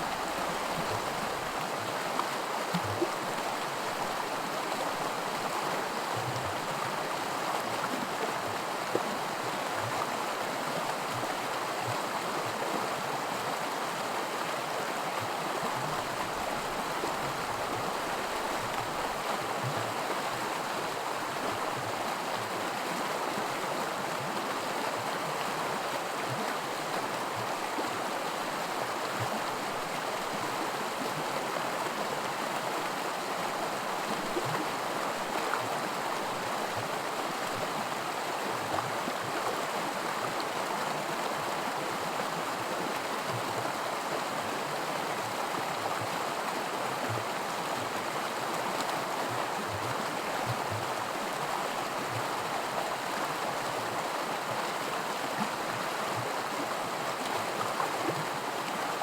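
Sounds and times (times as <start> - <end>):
creek babbling over rocks: 0.0 - 59.0.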